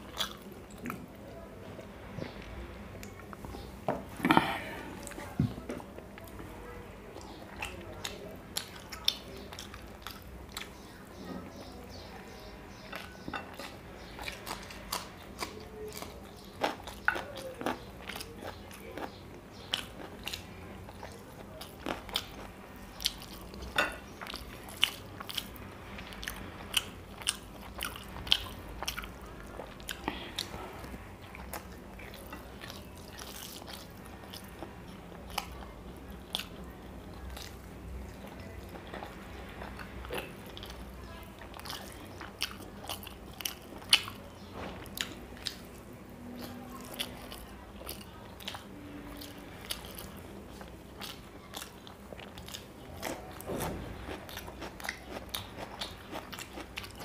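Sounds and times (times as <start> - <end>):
man chewing with wet mouth clicks: 0.0 - 1.2, 7.2 - 10.9, 12.7 - 57.0.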